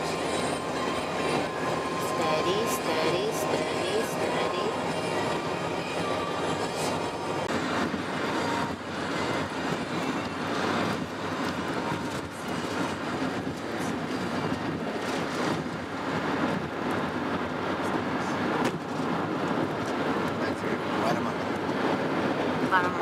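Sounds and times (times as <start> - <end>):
road and tyre rumble in car: 0.0 - 23.0.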